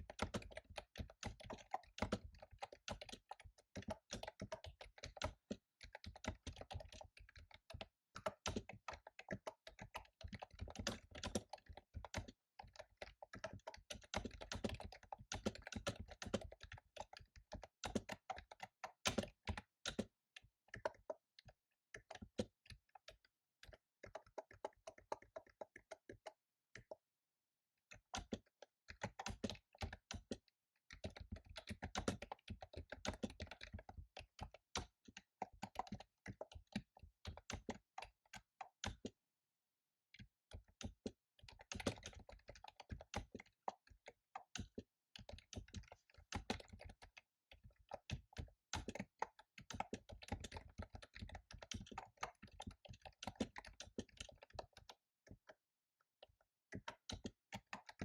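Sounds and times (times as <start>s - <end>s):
fast typing on a keyboard: 0.0s - 27.1s, 27.9s - 39.2s, 40.2s - 58.0s.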